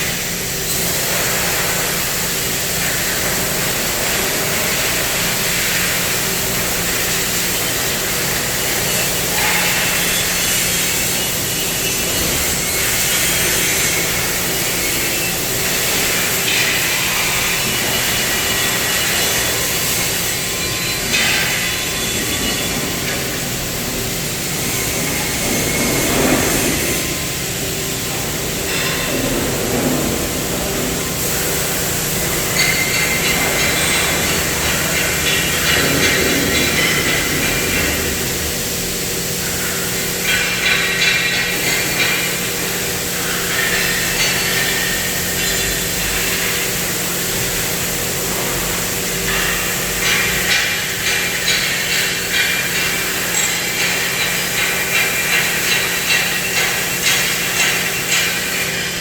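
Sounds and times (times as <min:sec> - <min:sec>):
cutting machine hiss and hum: 0:00.0 - 0:59.0.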